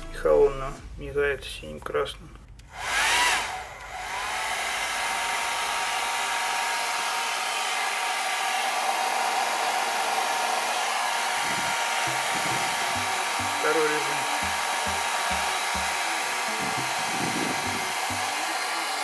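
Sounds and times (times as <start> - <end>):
hair dryer blowing: 2.8 - 19.0.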